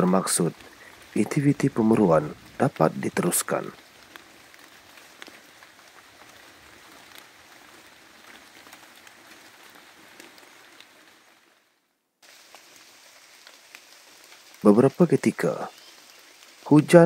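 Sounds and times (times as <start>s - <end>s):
light rain on foliage: 0.0s - 17.0s.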